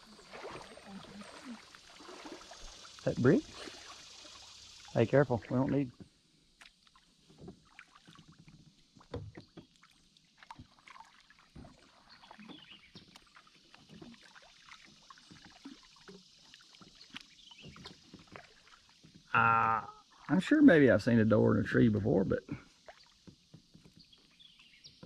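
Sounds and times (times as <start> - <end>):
small splashes of river water: 0.0 - 19.3, 22.0 - 25.0.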